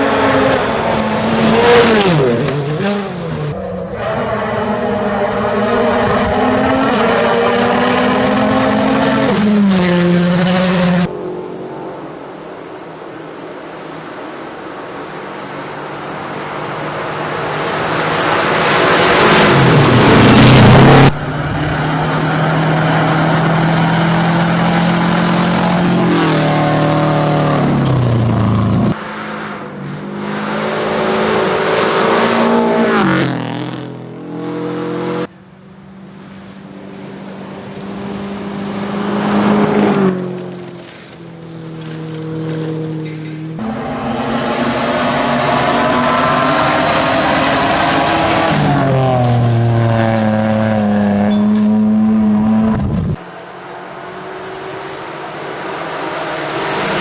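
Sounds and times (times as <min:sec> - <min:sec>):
rally cars driving past: 0:00.0 - 0:57.0.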